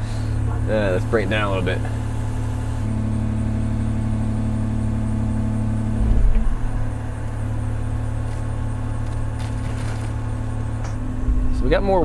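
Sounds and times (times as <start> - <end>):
excavator diesel engine running: 0.0 - 11.5.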